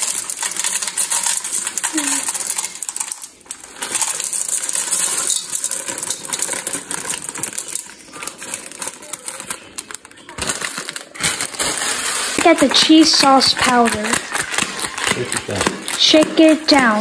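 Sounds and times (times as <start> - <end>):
dry pasta rattling into a pot: 0.0 - 17.0.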